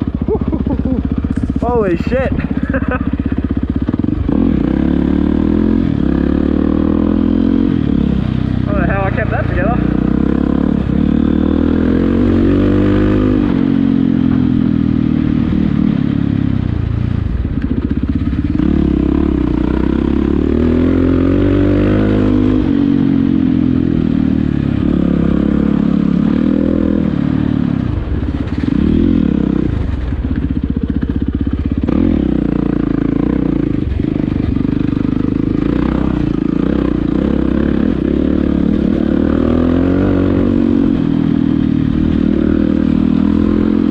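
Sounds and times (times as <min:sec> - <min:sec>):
dirt bike engine revving: 0:00.0 - 0:16.3, 0:18.1 - 0:30.1, 0:30.9 - 0:43.9.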